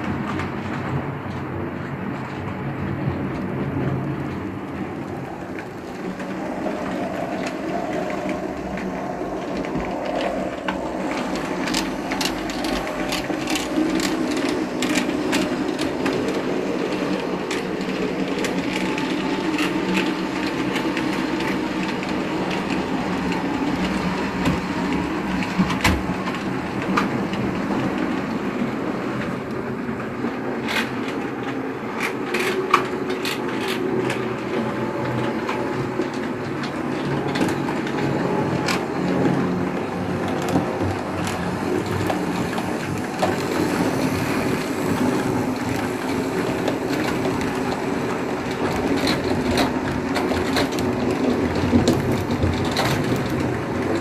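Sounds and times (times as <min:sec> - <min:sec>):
model train motor and wheels: 0:00.0 - 0:54.0
wheels clicking over rail joints: 0:00.0 - 0:54.0.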